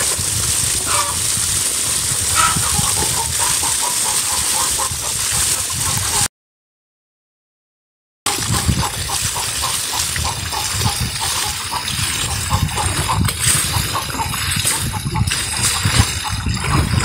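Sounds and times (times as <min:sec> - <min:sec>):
hose water splashing: 0:00.0 - 0:06.3, 0:08.3 - 0:17.0.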